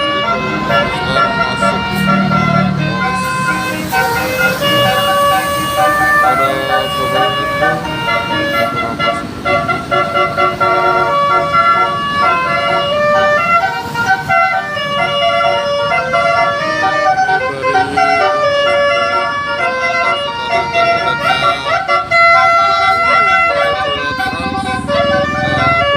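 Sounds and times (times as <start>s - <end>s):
multi-tone bus air horn tune: 0.0s - 25.9s.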